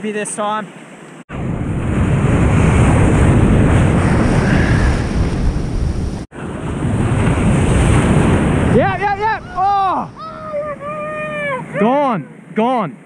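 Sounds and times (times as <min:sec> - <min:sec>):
surf washing in shallows: 0:00.6 - 0:12.8
wind buffeting microphone: 0:01.3 - 0:11.8.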